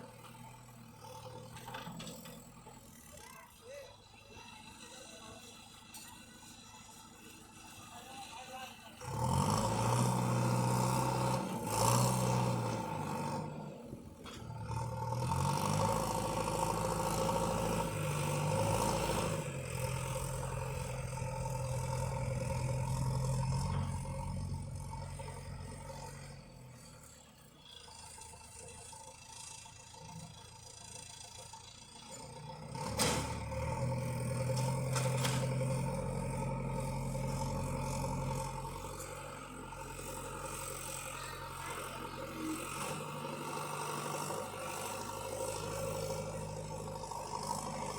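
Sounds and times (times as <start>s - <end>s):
tractor engine revving: 6.8s - 47.9s.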